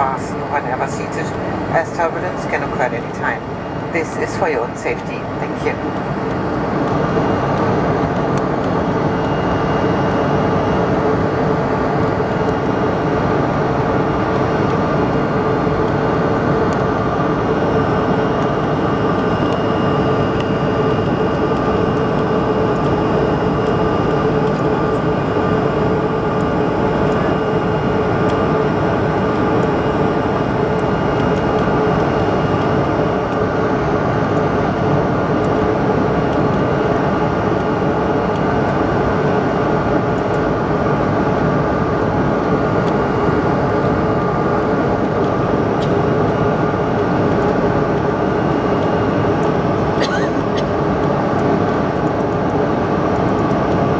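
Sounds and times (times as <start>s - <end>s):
jet engines roaring: 0.0s - 53.9s
steady whining tones: 0.0s - 53.9s.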